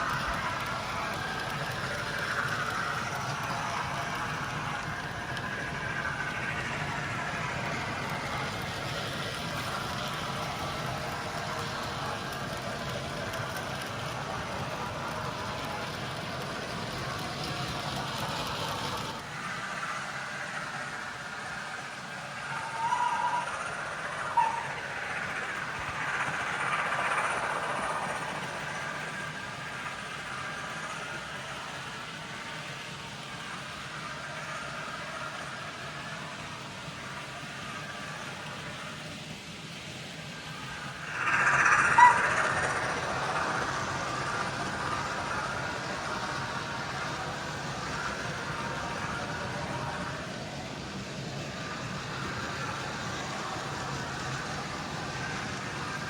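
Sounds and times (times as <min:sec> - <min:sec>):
model train wheels clattering: 0:00.0 - 0:20.9, 0:21.5 - 0:56.0.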